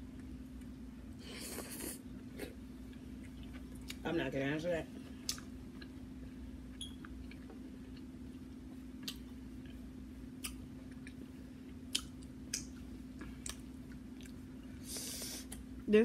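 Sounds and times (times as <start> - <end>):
faint steady hum: 0.0 - 16.0
person chewing: 1.3 - 4.0, 5.2 - 15.7.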